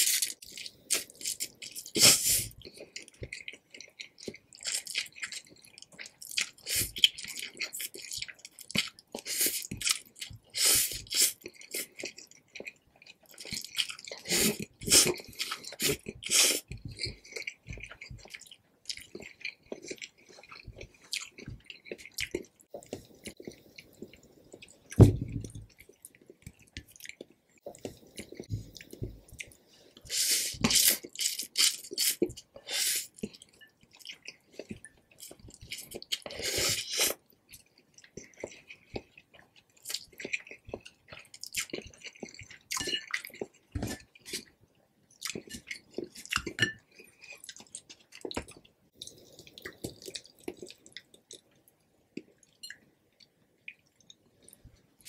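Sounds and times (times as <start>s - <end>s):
slurping and chewing noodles: 0.0s - 55.0s.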